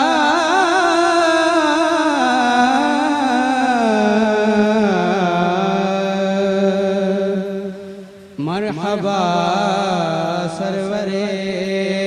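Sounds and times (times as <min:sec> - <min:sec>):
man chanting long notes: 0:00.0 - 0:12.0.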